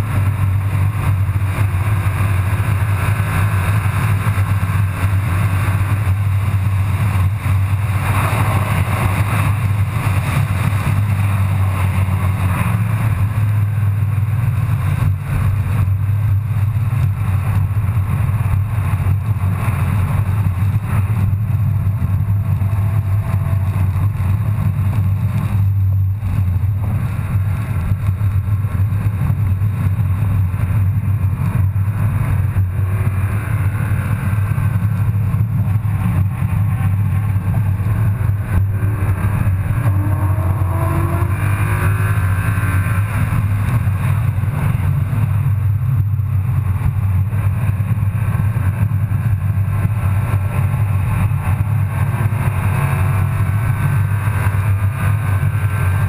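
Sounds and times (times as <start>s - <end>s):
car engine accelerating: 0.0s - 56.0s
road noise inside car: 0.0s - 56.0s.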